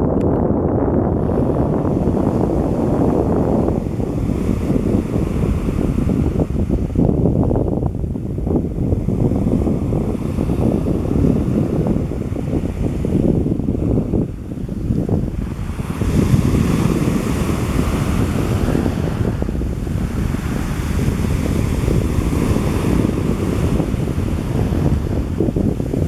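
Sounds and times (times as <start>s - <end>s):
wind buffeting microphone: 0.0s - 26.0s
sea waves washing: 1.1s - 26.0s.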